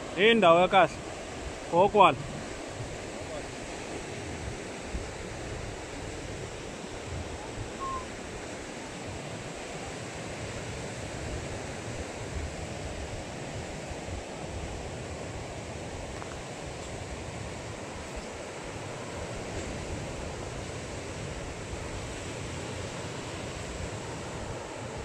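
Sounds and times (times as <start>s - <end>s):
ocean surf breaking: 0.0s - 25.0s
wind buffeting microphone: 1.0s - 22.2s.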